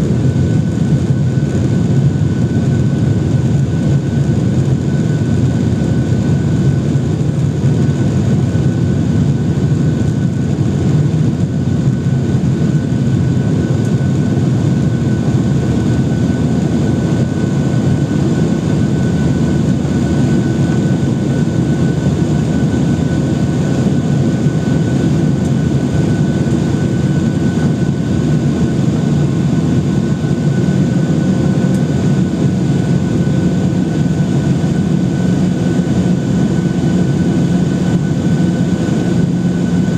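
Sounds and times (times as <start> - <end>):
jet engine hum: 0.0 - 39.9.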